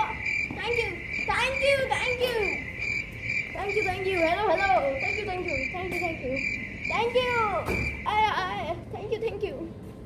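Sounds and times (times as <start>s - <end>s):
girl's voice: 0.0s - 2.6s, 3.6s - 9.7s
crickets chirping: 0.0s - 8.1s.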